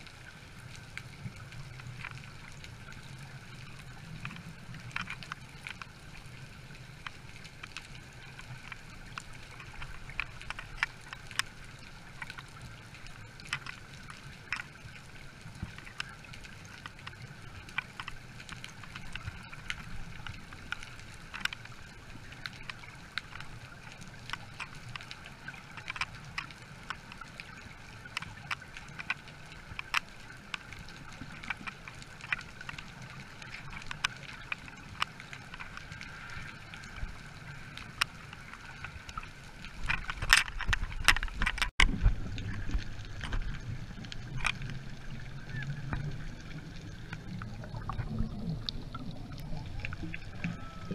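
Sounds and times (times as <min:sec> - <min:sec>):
sharp underwater clicks: 0:00.0 - 0:50.9
underwater hum and rumble: 0:00.0 - 0:50.9.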